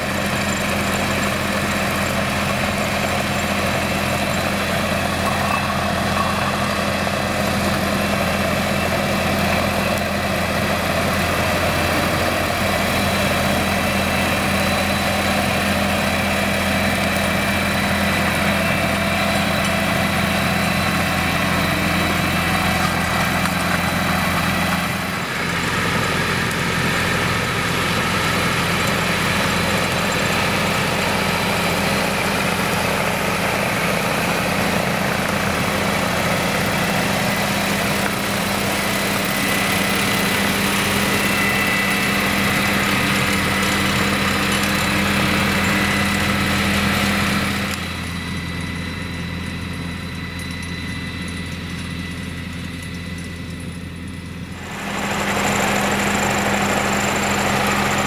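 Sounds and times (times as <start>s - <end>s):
mower cutting grass: 0.0s - 58.0s
tractor engine running: 0.0s - 58.0s.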